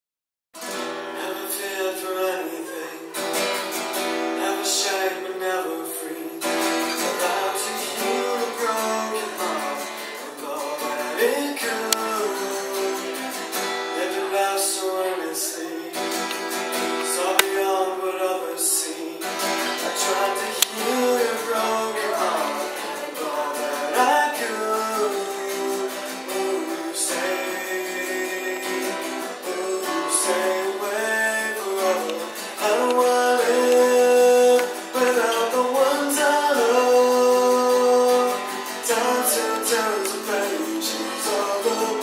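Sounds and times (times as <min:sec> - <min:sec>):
acoustic guitar strumming: 0:00.6 - 0:42.0.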